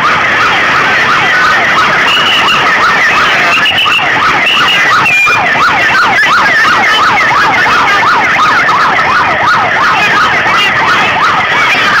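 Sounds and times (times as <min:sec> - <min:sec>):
siren yelping: 0:00.0 - 0:12.0.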